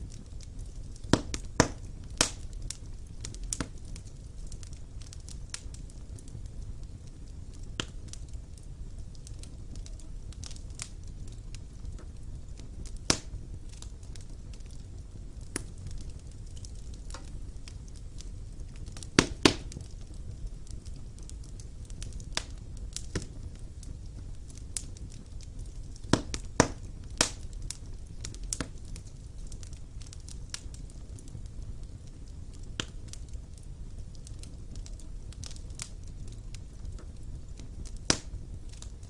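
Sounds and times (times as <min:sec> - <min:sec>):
fire crackling and popping: 0:00.0 - 0:39.0
fire flames rumbling: 0:00.0 - 0:39.0.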